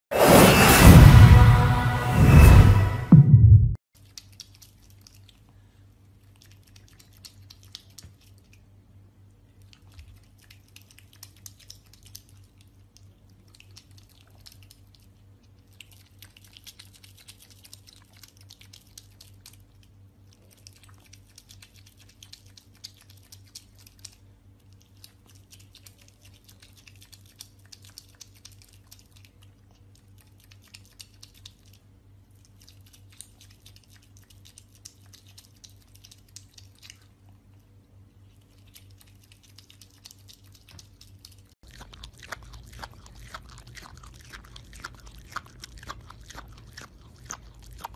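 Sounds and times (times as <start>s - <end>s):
faint steady hum: 4.0s - 47.9s
otter chewing food: 4.0s - 47.9s.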